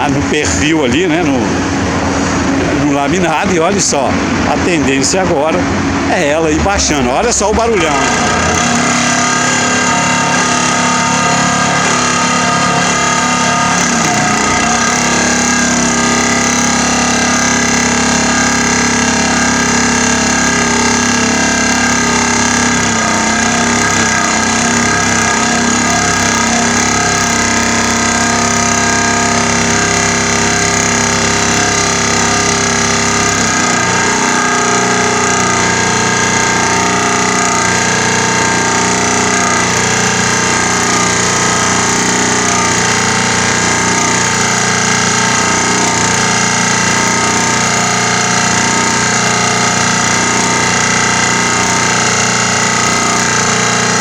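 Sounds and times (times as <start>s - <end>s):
pile driver mechanical drone: 0.0s - 54.0s.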